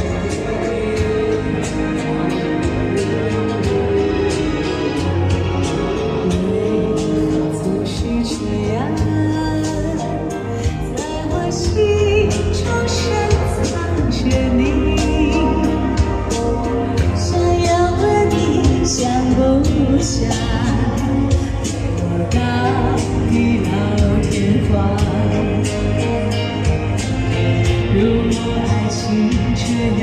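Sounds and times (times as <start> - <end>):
backing track with steady beat: 0.0 - 30.0
woman singing pop song: 0.0 - 30.0.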